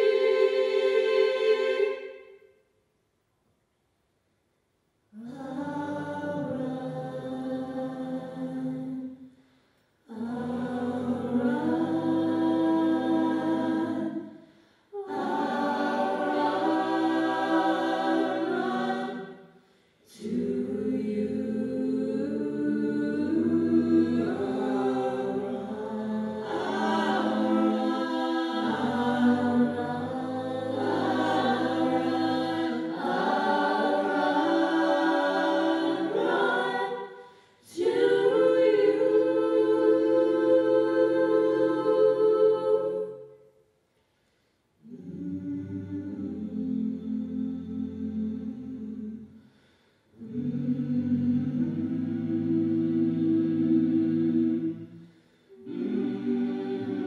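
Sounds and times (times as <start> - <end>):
vocal ensemble singing a cappella: 0.0 - 2.6, 5.1 - 57.0.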